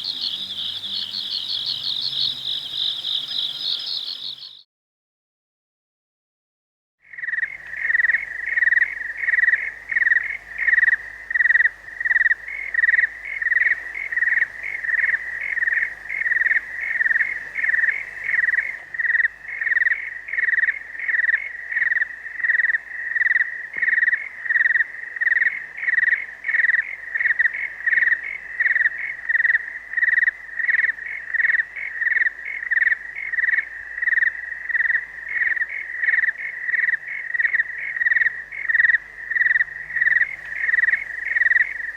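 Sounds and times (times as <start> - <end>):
crickets chirping: 0.0 - 4.6, 7.1 - 41.9.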